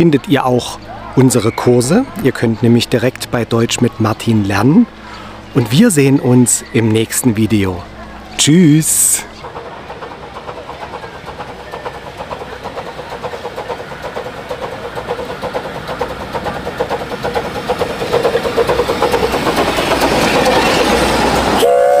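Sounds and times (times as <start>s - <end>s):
miniature steam locomotive chuffing: 0.0s - 22.0s.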